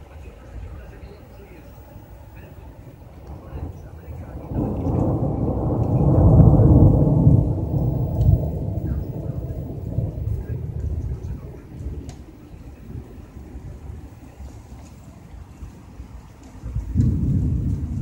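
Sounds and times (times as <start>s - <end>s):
rolling thunder: 2.0s - 14.5s, 15.9s - 18.0s.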